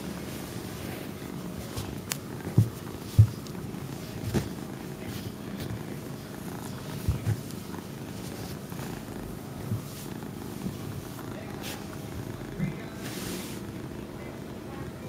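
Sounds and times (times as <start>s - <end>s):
chinchilla purring: 0.0s - 15.0s.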